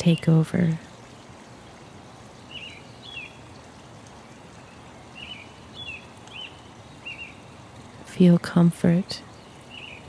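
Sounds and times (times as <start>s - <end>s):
soft background hiss: 0.0s - 10.0s
songbird chirping: 0.7s - 10.0s.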